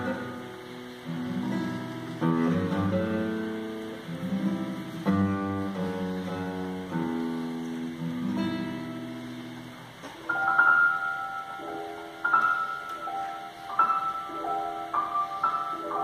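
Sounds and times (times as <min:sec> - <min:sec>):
classical guitar playing: 0:00.0 - 0:16.0
grand piano playing: 0:00.0 - 0:16.0.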